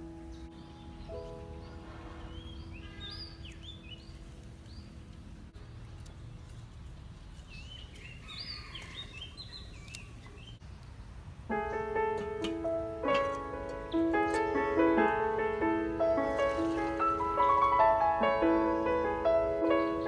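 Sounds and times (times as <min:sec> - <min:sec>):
songbird warbling and chirping: 0:00.0 - 0:11.2, 0:12.6 - 0:20.0.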